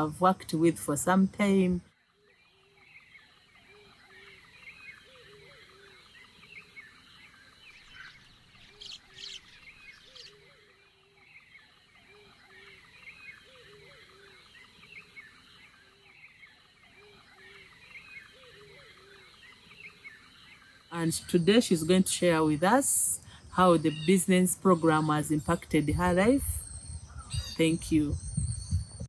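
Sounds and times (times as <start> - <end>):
birdsong chirps: 0.0 - 29.0.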